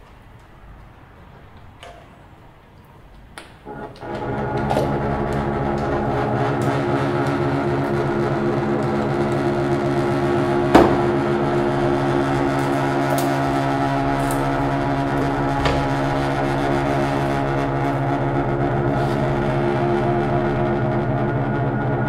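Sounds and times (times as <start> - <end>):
buzzy synthesizer drone: 3.6 - 22.0.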